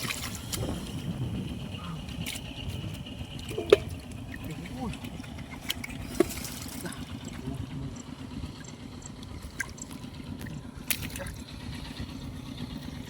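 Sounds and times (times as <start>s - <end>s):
water trickling and splashing: 0.0s - 11.7s
steady low hum: 0.0s - 13.0s.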